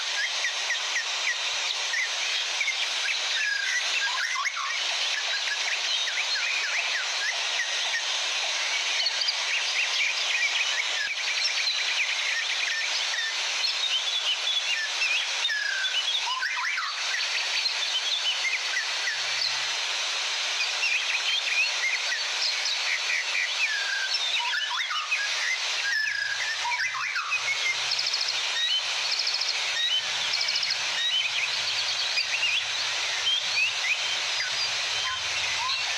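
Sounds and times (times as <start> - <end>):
birds chirping and whistling: 0.1 - 19.6, 20.8 - 35.9.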